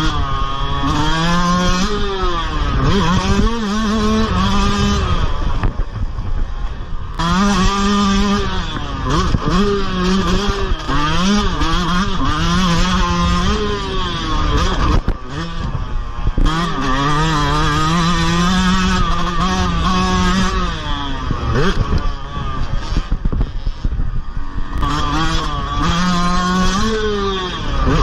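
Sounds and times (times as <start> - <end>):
dirt bike engine revving: 0.0 - 28.0
wind and dirt noise: 0.0 - 28.0.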